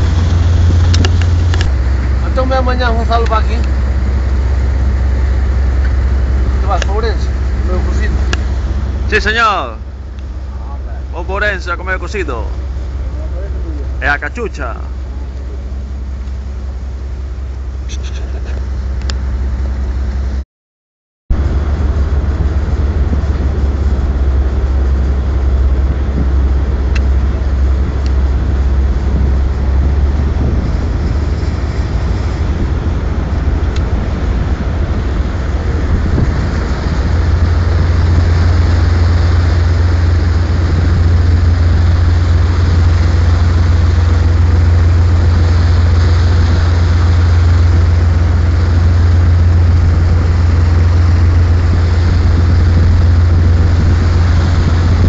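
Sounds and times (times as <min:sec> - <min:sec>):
diesel engines droning: 0:00.0 - 0:20.4, 0:21.3 - 0:55.0.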